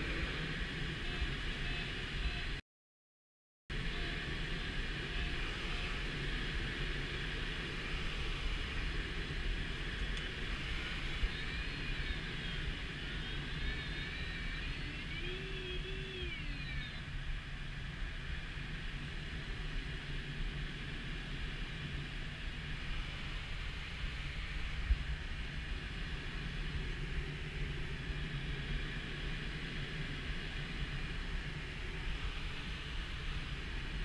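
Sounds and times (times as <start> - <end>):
air rushing past glider: 3.8 - 14.9, 17.1 - 34.0.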